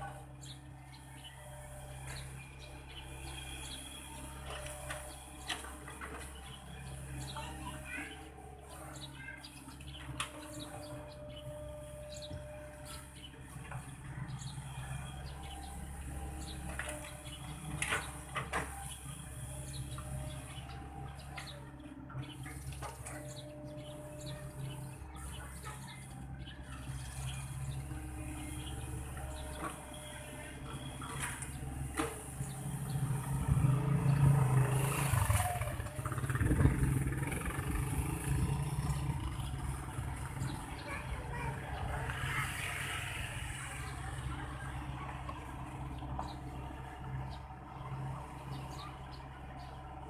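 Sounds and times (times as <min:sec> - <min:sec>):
birds chirping: 0:00.0 - 0:50.0
excavator engine rumbling: 0:00.0 - 0:50.0.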